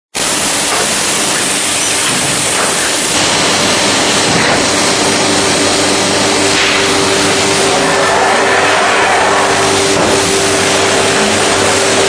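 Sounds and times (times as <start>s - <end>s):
machine rushing noise: 0.2s - 12.0s.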